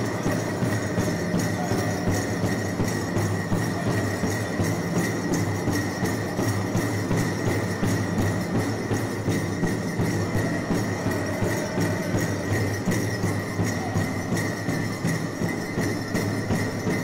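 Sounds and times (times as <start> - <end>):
bells jingling: 0.0 - 17.0
hand drum steady beat: 0.0 - 17.0.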